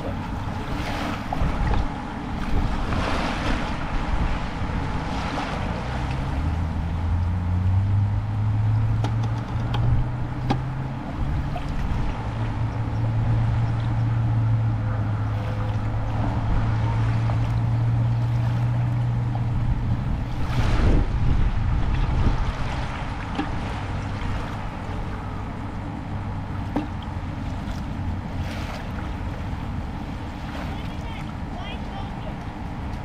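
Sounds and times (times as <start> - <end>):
engine humming: 0.0 - 33.0
wind buffeting microphone: 0.0 - 33.0.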